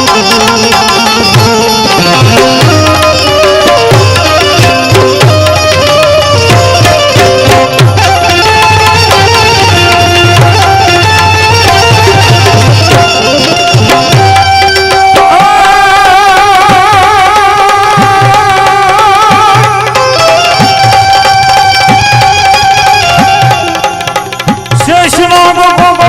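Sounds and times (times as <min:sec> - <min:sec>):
held wavering melody line: 0:00.0 - 0:24.8
tabla playing a rhythm: 0:00.0 - 0:26.0.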